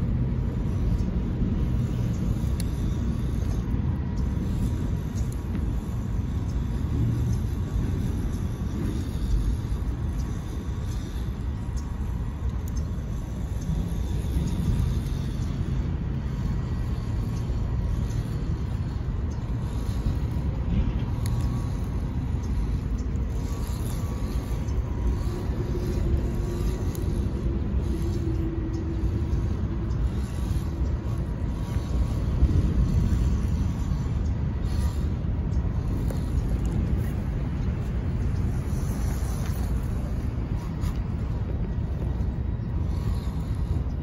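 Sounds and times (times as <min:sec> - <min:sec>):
electric motor and gears whining: 0:00.0 - 0:44.0
low rumble: 0:00.0 - 0:44.0.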